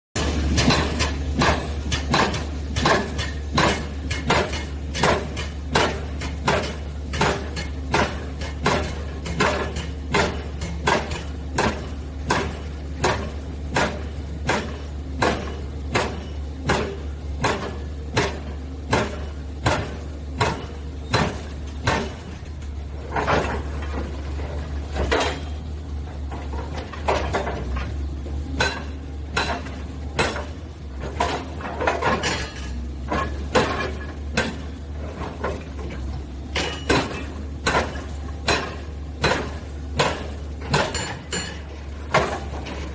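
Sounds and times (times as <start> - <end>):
hydraulic breaker hammering: 0.2 - 42.9.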